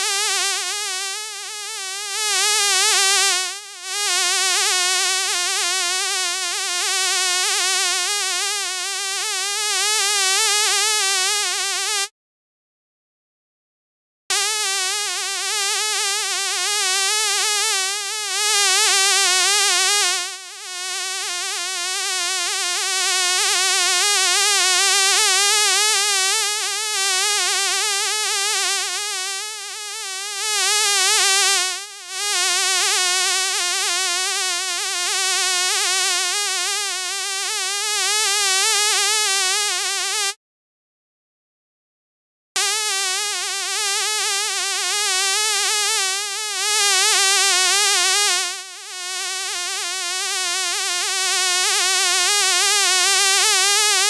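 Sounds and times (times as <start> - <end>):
fly buzzing: 0.0 - 7.8, 8.4 - 12.1, 14.3 - 40.4, 42.6 - 51.2.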